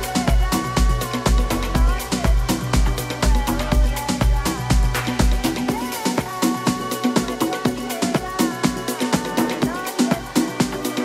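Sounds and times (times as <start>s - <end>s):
hi-hats: 0.0s - 11.0s
house dance music: 0.0s - 11.0s
kick drum beat: 0.0s - 11.0s.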